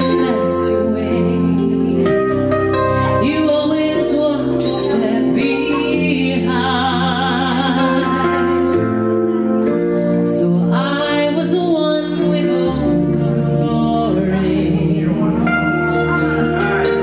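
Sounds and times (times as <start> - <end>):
woman singing: 0.0 - 9.1, 10.2 - 17.0
sustained keyboard chords: 0.0 - 17.0.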